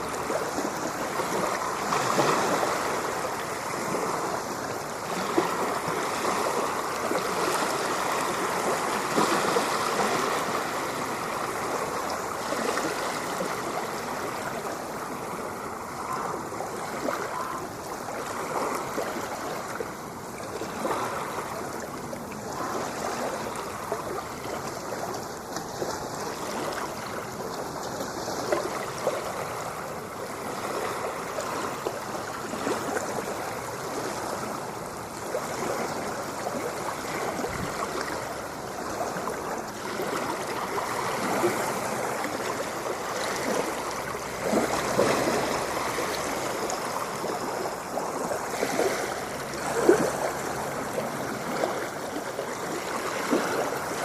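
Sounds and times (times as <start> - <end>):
ocean water lapping: 0.0 - 54.0.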